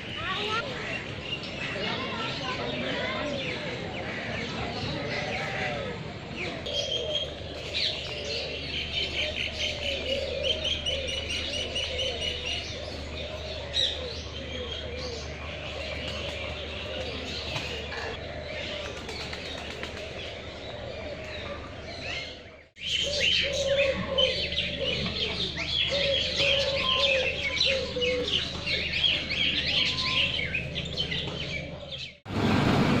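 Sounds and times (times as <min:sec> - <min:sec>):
low repeated bird call: 0:00.0 - 0:32.2
birds chirping in chorus: 0:00.0 - 0:32.3.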